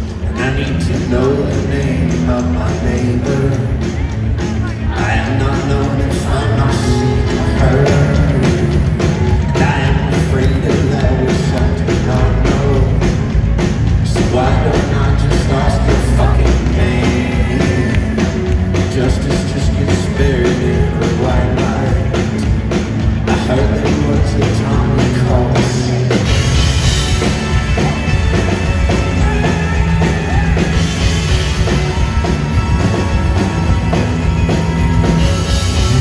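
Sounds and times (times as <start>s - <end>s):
man singing lead vocal: 0.0s - 28.3s, 28.9s - 32.1s, 33.2s - 36.0s
live rock band playing: 0.0s - 36.0s.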